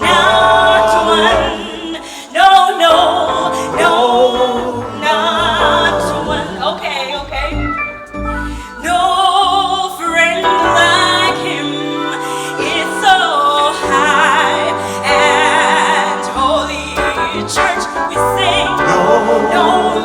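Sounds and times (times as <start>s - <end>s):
man and woman singing a hymn: 0.0s - 20.0s.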